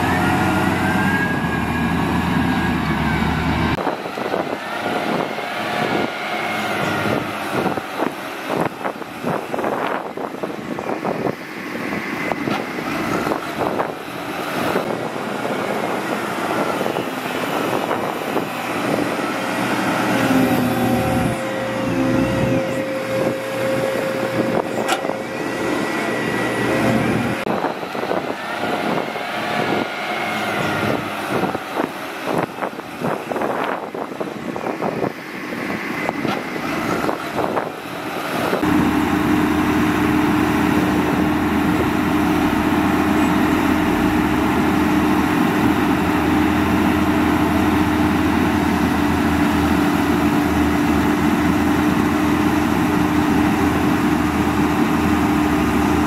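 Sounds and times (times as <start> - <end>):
heavy diesel machinery drone: 0.0 - 56.0
wheel loader diesel engine: 0.0 - 56.0.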